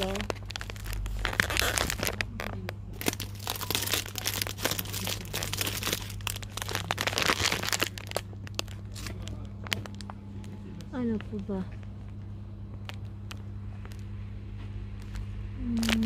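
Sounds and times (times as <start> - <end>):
plastic snack packets crinkling: 0.0 - 14.1, 14.9 - 16.0
steady low hum: 0.0 - 16.0.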